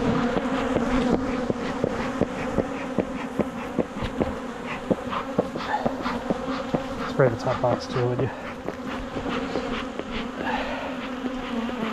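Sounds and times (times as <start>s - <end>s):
honeybees buzzing: 0.0s - 11.9s.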